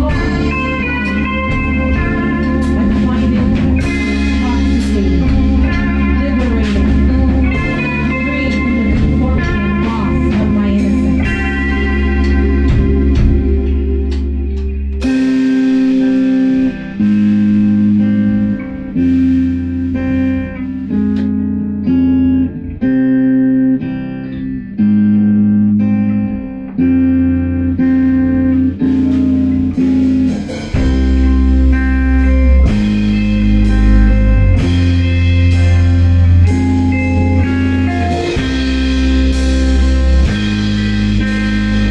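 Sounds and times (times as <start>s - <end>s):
guitar playing chords: 0.0s - 41.9s
heavy bass notes: 0.0s - 41.9s.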